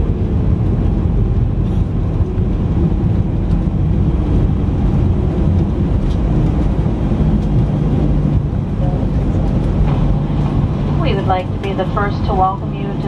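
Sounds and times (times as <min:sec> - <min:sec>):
jet cabin low rumble: 0:00.0 - 0:13.0.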